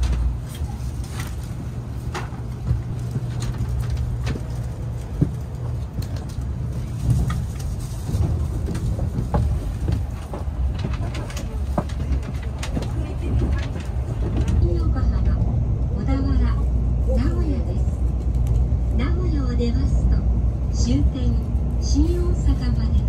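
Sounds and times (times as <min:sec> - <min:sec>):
train rumbling inside cabin: 0:00.0 - 0:23.0.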